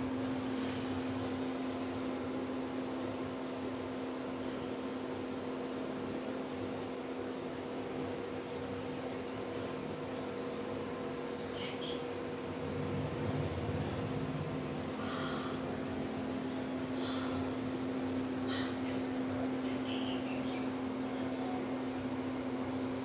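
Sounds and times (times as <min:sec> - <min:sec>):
machine droning hum: 0:00.0 - 0:23.0.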